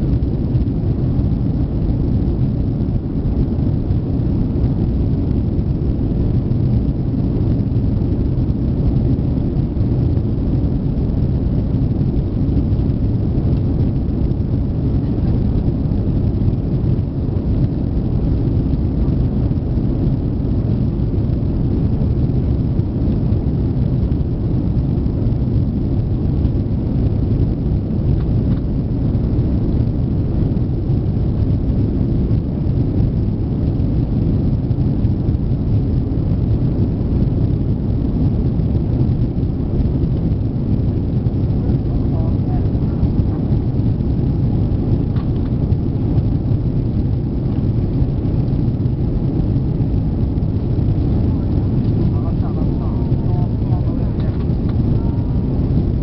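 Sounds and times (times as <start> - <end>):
jet engines at climb power: 0.0 - 56.0.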